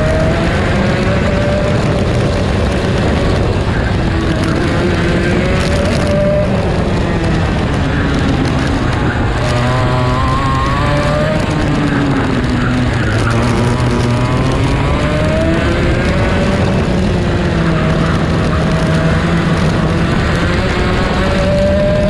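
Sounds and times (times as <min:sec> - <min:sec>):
kart engine revving: 0:00.0 - 0:22.0
other karts' engines: 0:00.0 - 0:22.0
wind rush over microphone: 0:00.0 - 0:22.0.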